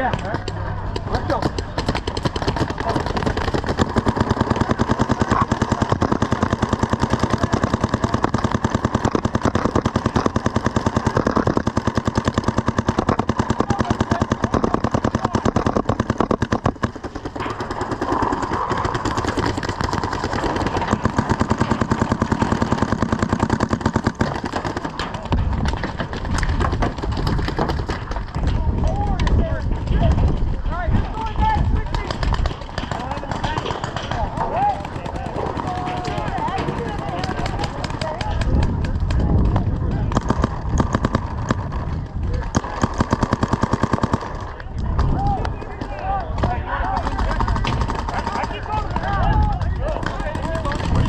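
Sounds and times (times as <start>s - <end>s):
paintball markers firing: 0.0s - 28.5s, 31.7s - 51.0s.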